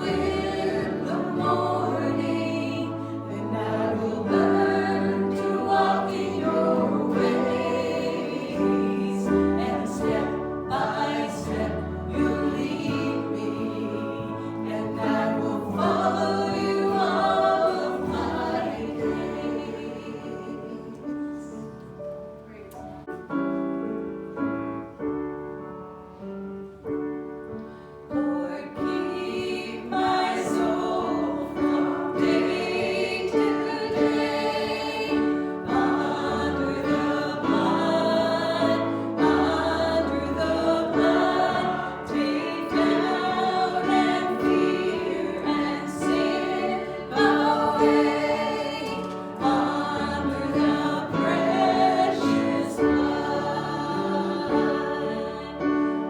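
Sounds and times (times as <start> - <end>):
congregation singing: 0.0 - 23.4, 27.6 - 56.0
piano playing: 0.0 - 56.0.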